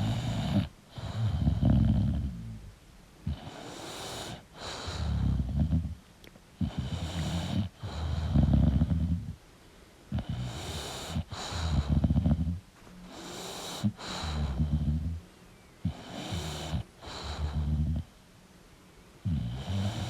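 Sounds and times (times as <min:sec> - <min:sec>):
dog snoring: 0:00.0 - 0:06.0, 0:06.6 - 0:09.4, 0:10.1 - 0:15.2, 0:15.8 - 0:18.2, 0:19.2 - 0:20.0.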